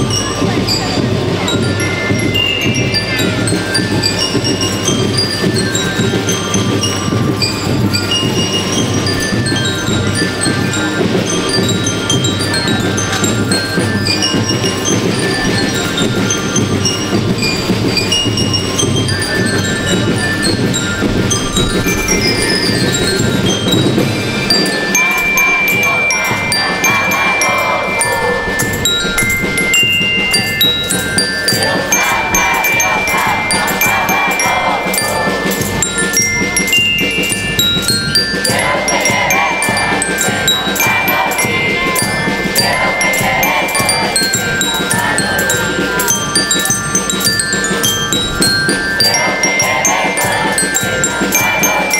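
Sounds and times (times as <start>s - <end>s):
bell lyres playing runs: 0.0s - 51.9s
drums and cymbals: 0.0s - 51.9s.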